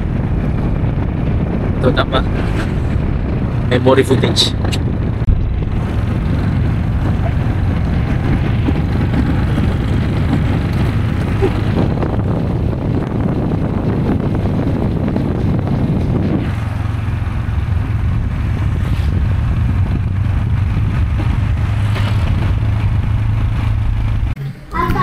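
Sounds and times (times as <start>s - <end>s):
road and wind noise: 0.0s - 25.0s
vehicle engine hum: 0.0s - 25.0s.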